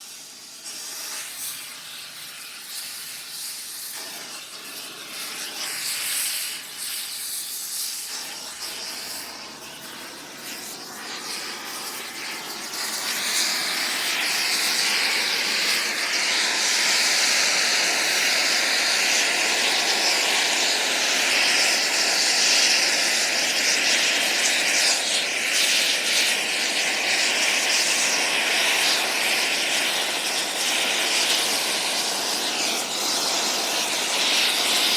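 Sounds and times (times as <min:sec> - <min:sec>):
air torch hissing: 0:00.0 - 0:34.9.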